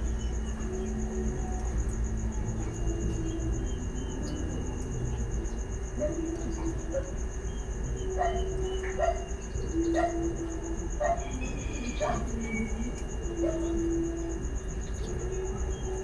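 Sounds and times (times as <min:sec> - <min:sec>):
cricket trilling: 0:00.0 - 0:16.0
low steady hum: 0:00.0 - 0:16.0.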